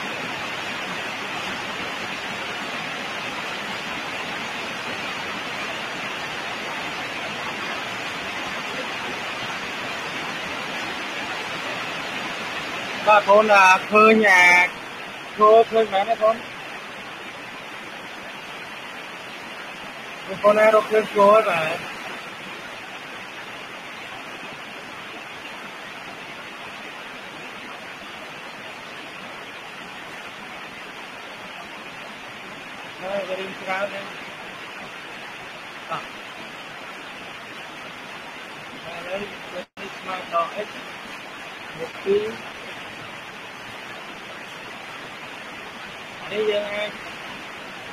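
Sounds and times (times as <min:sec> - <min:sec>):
steady hiss: 0:00.0 - 0:47.9.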